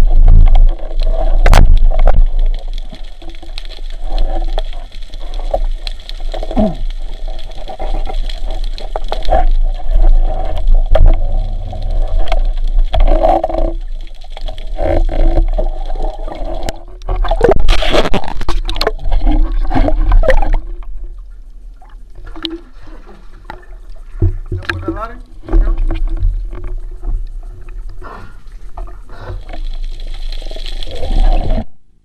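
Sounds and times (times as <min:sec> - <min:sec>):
water gurgling and sloshing: 0:00.0 - 0:32.0.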